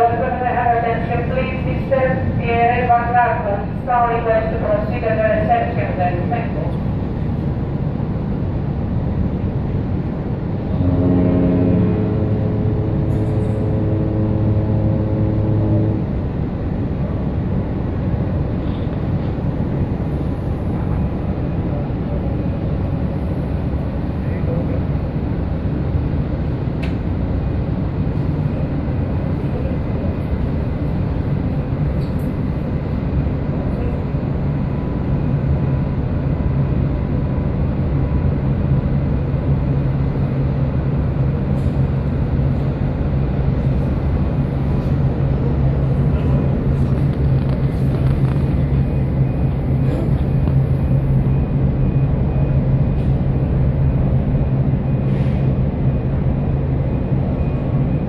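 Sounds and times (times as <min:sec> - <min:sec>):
ferry engine low rumble: 0:00.0 - 0:58.0.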